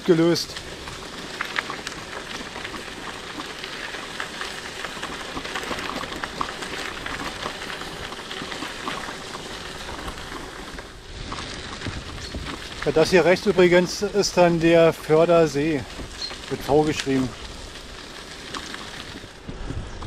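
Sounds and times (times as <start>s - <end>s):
bicycle tyres rolling on rough path: 0.0s - 20.0s.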